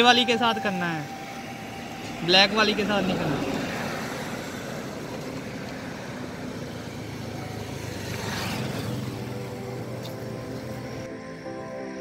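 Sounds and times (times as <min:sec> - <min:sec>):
motor vehicle running: 0:00.0 - 0:11.1.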